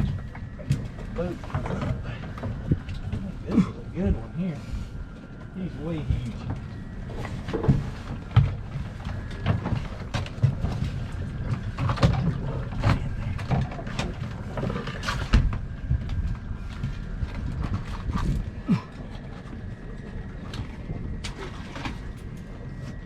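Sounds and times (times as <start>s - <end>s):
boat engine rumble: 0.0s - 23.0s.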